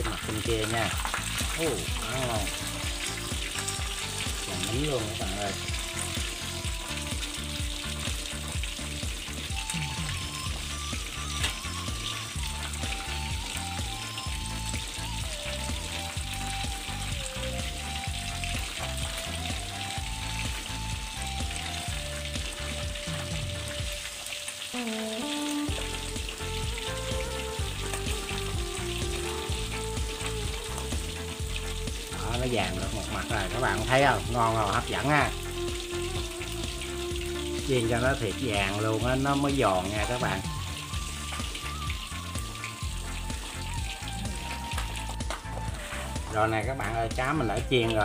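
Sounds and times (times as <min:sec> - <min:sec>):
background music with bass beat: 0:00.0 - 0:24.1, 0:24.8 - 0:48.0
hot oil sizzling: 0:00.0 - 0:48.0.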